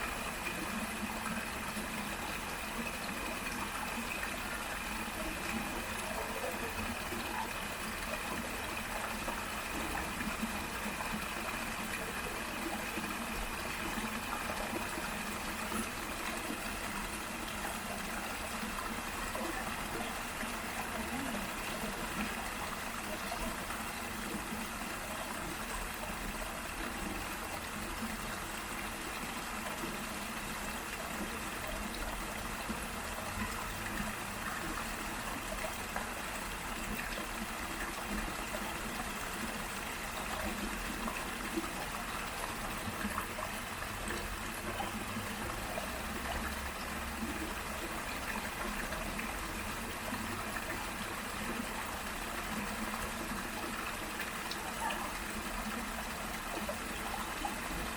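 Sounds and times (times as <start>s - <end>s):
small waterfall and stream: 0.0s - 57.9s.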